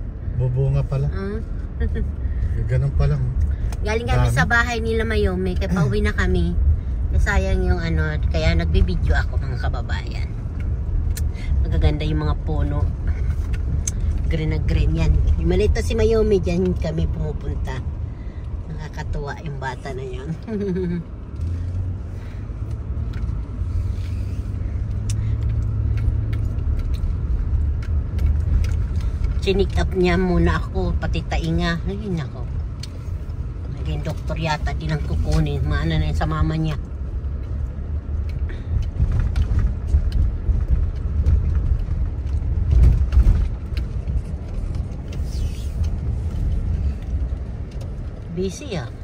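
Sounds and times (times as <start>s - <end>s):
car engine and road noise: 0.0s - 49.0s.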